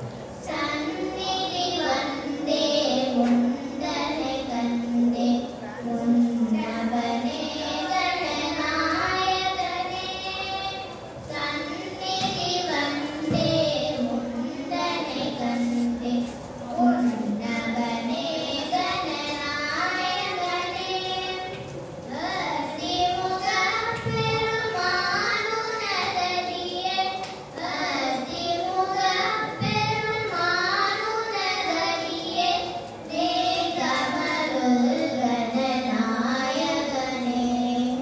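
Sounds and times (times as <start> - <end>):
girls singing: 0.3 - 38.0.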